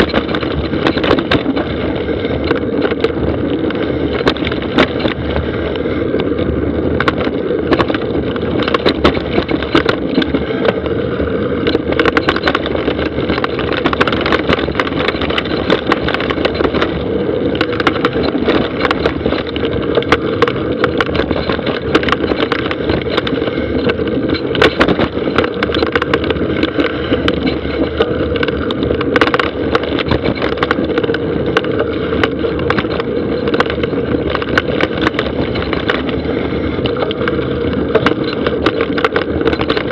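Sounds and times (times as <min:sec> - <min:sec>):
bike knocks and rattles: 0:00.0 - 0:39.9
bike tyres on dirt trail: 0:00.0 - 0:39.9.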